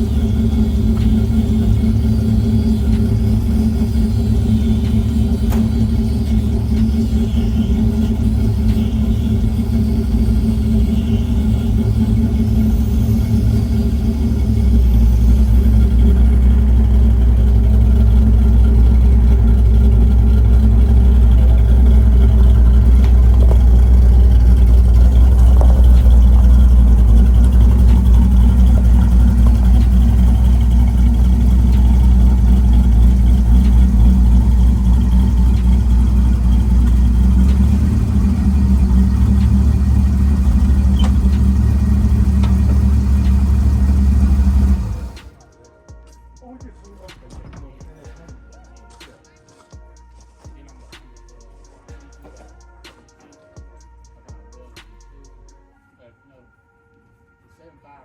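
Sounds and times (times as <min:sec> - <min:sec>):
car engine idling: 0:00.0 - 0:55.7.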